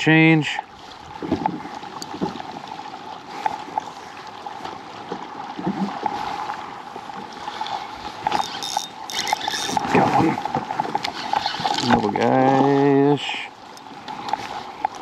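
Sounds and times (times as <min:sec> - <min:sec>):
water lapping against kayak hull: 0:00.0 - 0:15.0.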